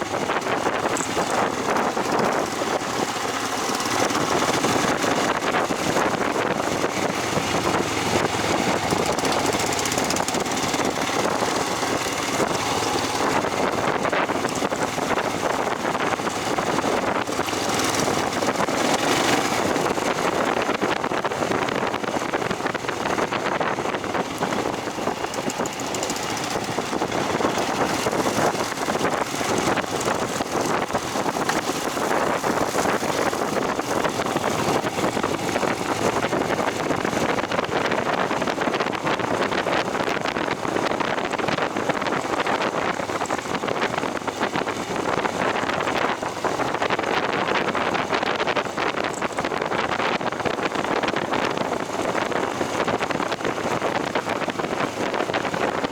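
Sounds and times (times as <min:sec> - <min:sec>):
vehicle driving on dirt road: 0:00.0 - 0:55.9
wind on microphone: 0:00.0 - 0:55.9.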